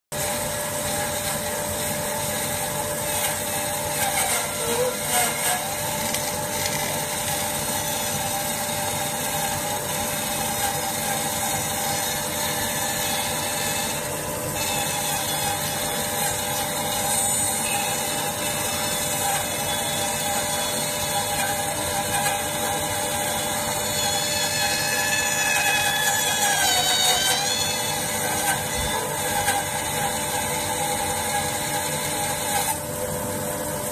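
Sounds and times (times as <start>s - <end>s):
band saw whining through log: 0.1s - 33.9s.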